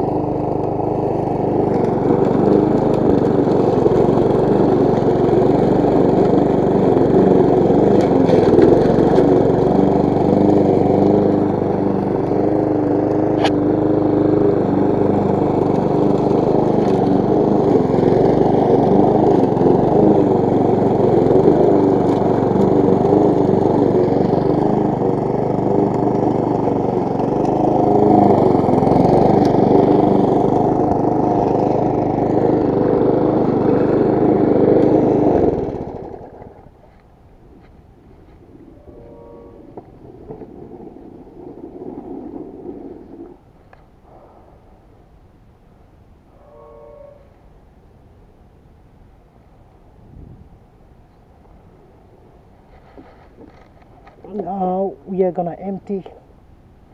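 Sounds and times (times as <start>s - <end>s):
lawn mower engine running: 0.0s - 46.8s, 47.6s - 56.9s.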